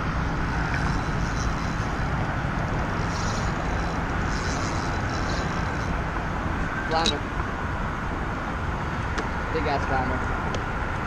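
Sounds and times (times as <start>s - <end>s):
road traffic roar overhead: 0.0s - 11.0s.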